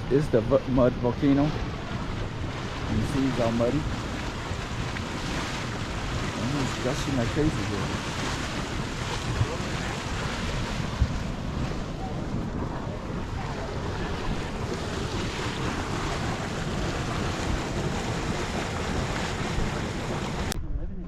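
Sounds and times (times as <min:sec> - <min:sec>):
boiling mud pot gushing: 0:00.0 - 0:20.6
wind buffeting the microphone: 0:00.0 - 0:21.0.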